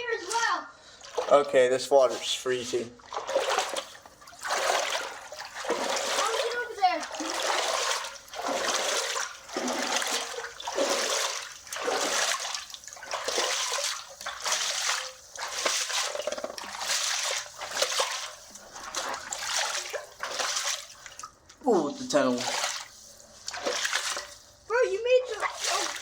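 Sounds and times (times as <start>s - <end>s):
feet wading through water: 0.2s - 26.0s.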